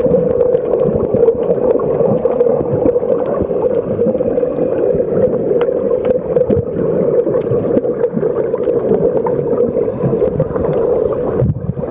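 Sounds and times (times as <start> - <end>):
faint underwater clicks: 0.0 - 11.9
muffled underwater water rush: 0.0 - 11.9.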